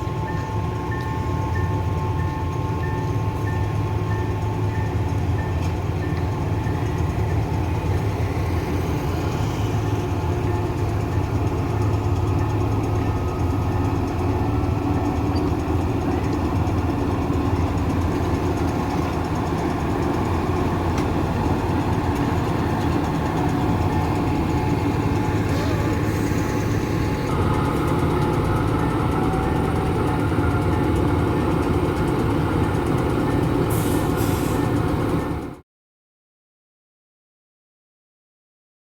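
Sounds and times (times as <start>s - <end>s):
diesel engine idling: 0.0s - 35.6s.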